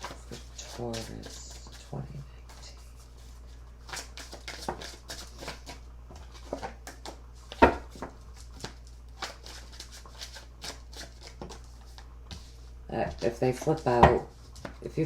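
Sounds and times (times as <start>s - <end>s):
cards being shuffled: 0.0s - 12.5s.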